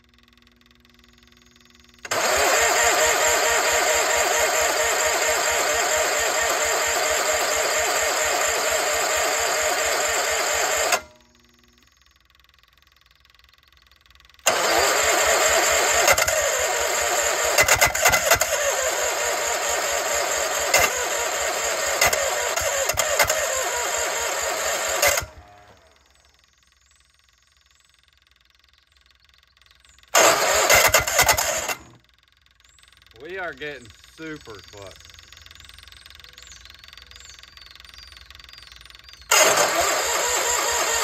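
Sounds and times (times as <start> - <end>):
engine starter cranking: 0.6 - 41.0.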